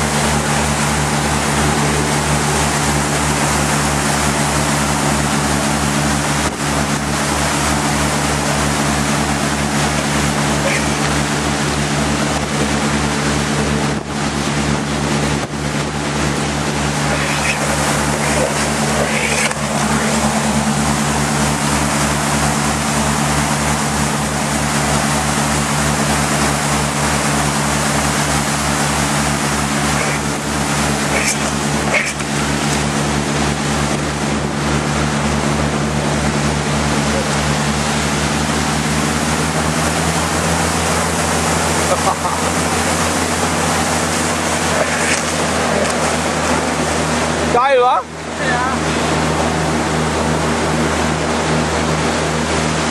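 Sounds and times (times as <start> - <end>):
motorboat engine droning: 0.0 - 52.9
water rushing against hull: 0.0 - 52.9.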